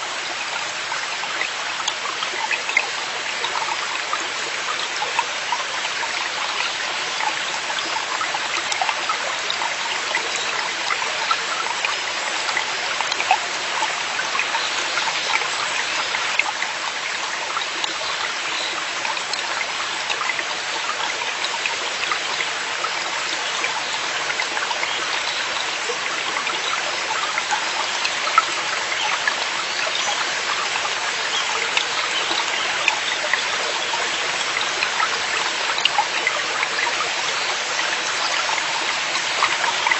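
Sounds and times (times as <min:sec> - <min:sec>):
stream flowing over rocks: 0:00.0 - 0:39.9
water splashes and trickles: 0:00.0 - 0:39.9.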